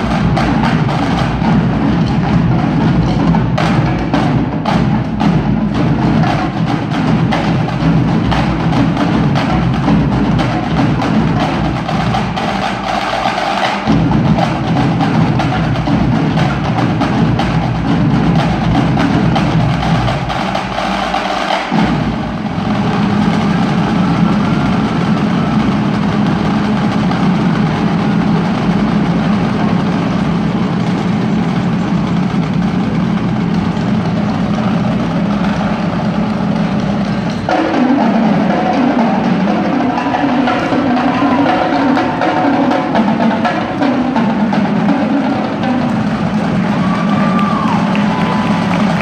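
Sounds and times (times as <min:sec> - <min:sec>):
drumline playing: 0:00.0 - 0:49.0.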